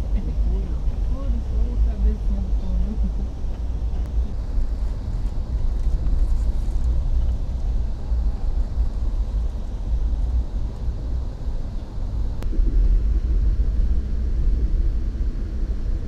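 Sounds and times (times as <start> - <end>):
vehicle rumble heard from inside: 0.0 - 16.0.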